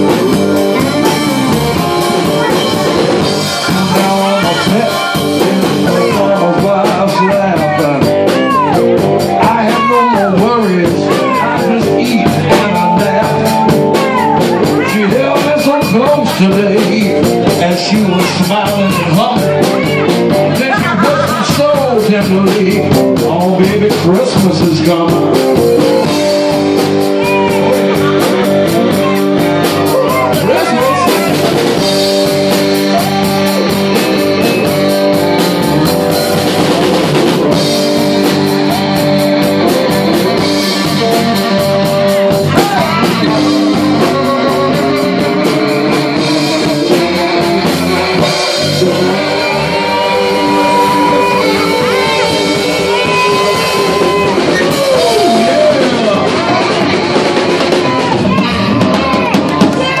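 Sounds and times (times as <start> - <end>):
blues band playing: 0.0 - 60.0
lead guitar bending notes: 0.0 - 60.0.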